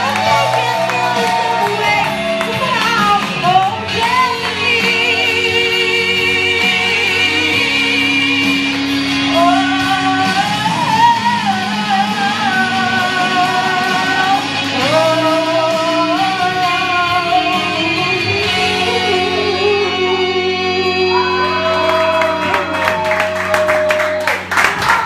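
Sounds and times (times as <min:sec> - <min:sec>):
woman singing pop ballad: 0:00.0 - 0:23.9
backing track with guitar: 0:00.0 - 0:25.0.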